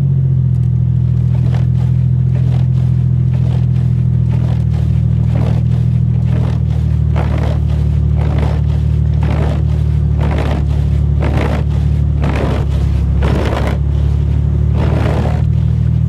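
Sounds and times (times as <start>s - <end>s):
car engine idling: 0.0s - 16.0s
repeating swishing stroke: 2.4s - 15.5s.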